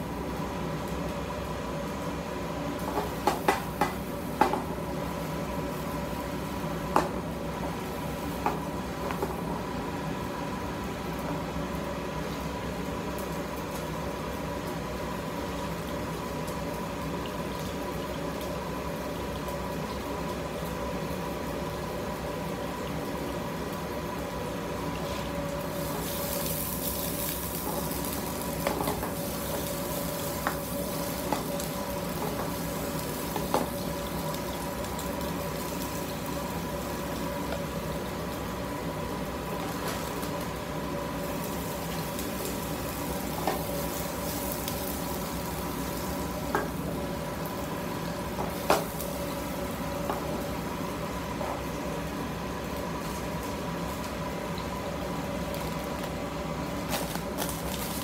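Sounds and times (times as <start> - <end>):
onions sizzling in a frying pan: 0.0 - 58.0.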